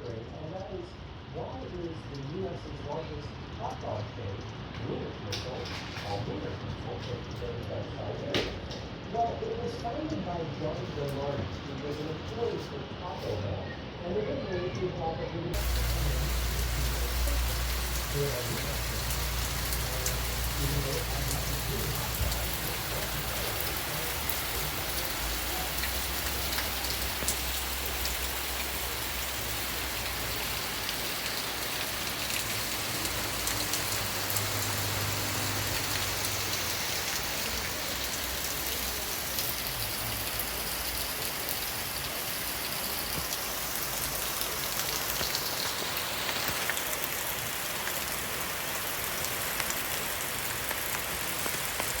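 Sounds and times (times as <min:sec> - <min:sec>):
steady rain falling: 0:00.0 - 0:13.5, 0:15.5 - 0:52.0.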